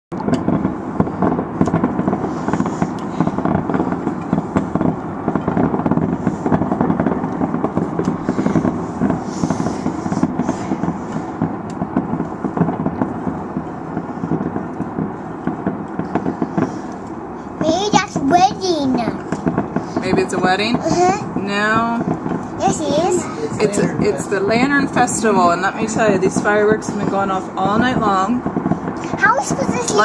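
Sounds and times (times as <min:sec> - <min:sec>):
firecrackers crackling: 0:00.1 - 0:30.0.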